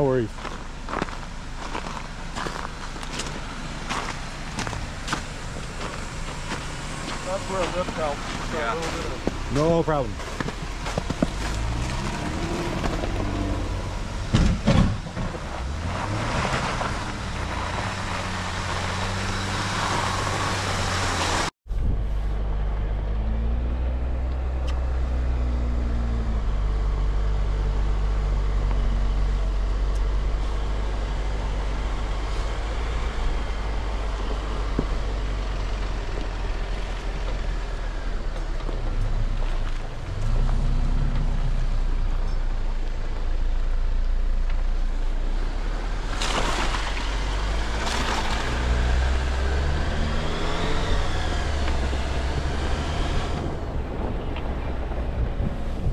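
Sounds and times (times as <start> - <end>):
truck engines running slowly: 0.0 - 55.9.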